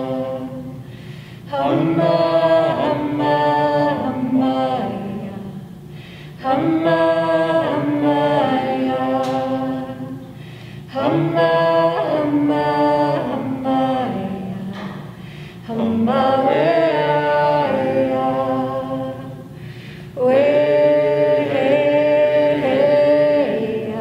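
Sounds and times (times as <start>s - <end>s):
group singing unaccompanied: 0.0s - 24.0s.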